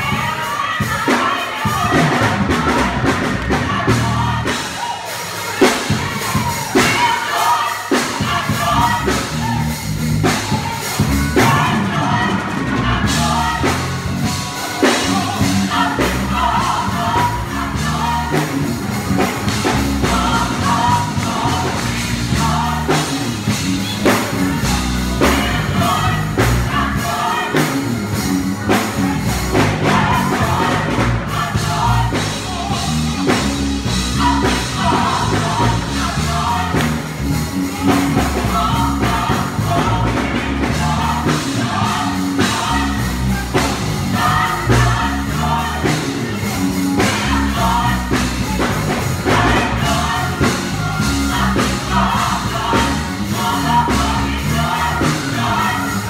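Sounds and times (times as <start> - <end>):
gospel choir singing in parts: 0.0 - 56.0
music with a steady beat: 0.0 - 56.0.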